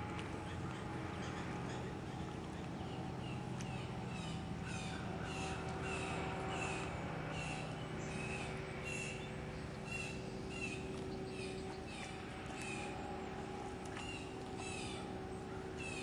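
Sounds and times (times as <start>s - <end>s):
steady low hum: 0.0s - 16.0s
bird calling: 0.4s - 13.0s, 13.8s - 16.0s.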